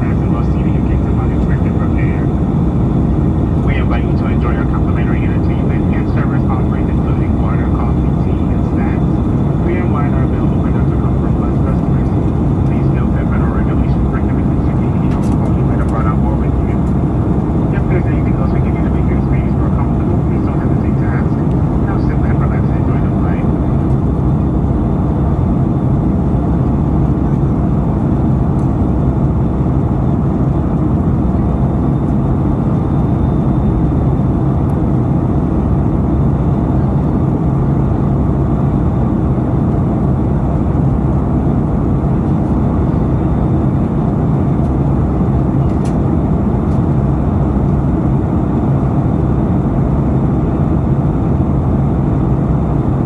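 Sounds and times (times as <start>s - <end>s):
jet engines rumbling in cabin: 0.0s - 53.0s.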